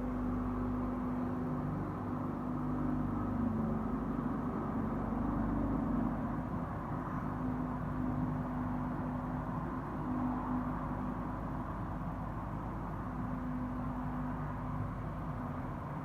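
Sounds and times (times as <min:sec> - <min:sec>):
constant rumble: 0:00.0 - 0:16.0.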